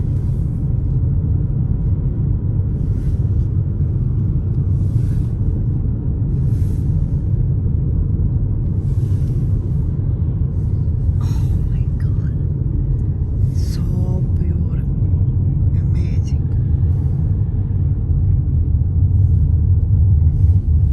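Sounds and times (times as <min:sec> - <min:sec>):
road and engine rumble in car: 0:00.0 - 0:20.9.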